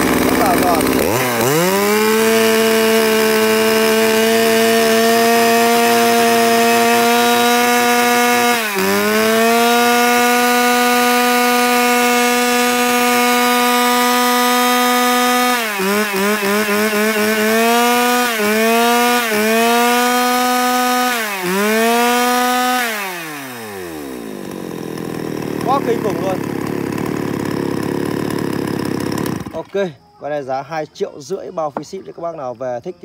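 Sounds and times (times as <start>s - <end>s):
chainsaw running at full throttle: 0.0s - 29.8s.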